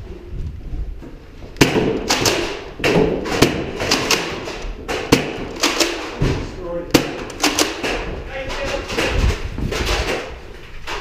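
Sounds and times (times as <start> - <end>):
foam balls bouncing off surfaces: 0.9 - 11.0.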